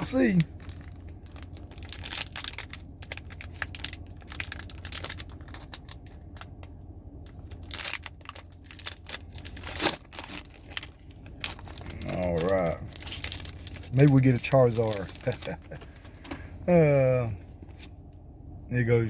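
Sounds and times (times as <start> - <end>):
foil wrapper tearing and crinkling: 0.0 - 15.8.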